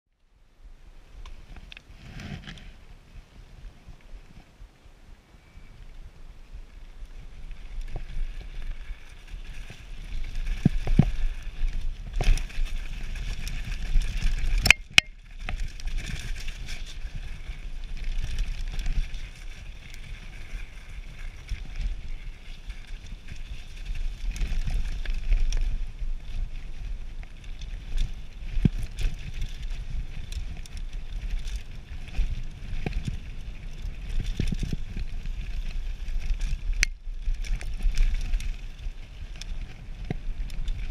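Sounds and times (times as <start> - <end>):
low wind rumble on microphone: 0.1 - 40.9
tyres rolling on gravel trail: 6.0 - 40.9
bike rattles and knocks: 7.8 - 40.9.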